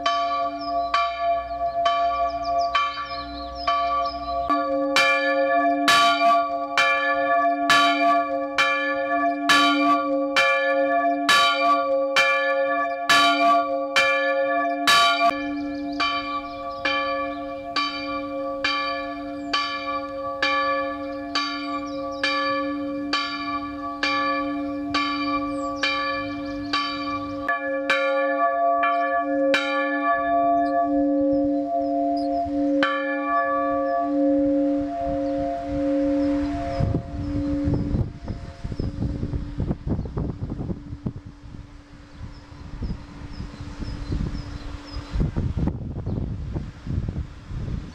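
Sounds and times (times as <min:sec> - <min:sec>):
bell humming: 0:00.0 - 0:39.3
church bell ringing: 0:00.0 - 0:39.7.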